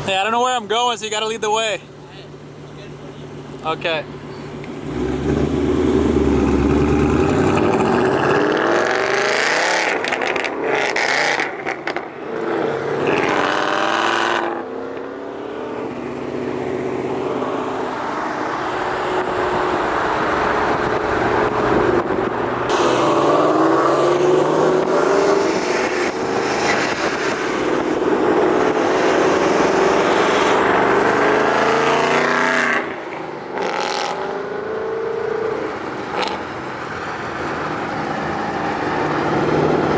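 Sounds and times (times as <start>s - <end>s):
car engine accelerating: 2.0s - 39.9s.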